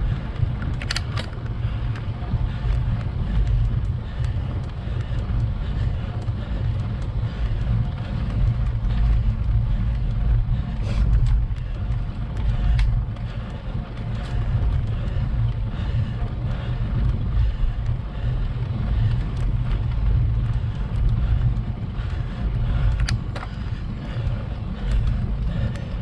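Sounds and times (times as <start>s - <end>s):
light clicks and rattles: 0.0s - 26.0s
road rumble: 0.0s - 26.0s
wind buffeting microphone: 0.0s - 26.0s.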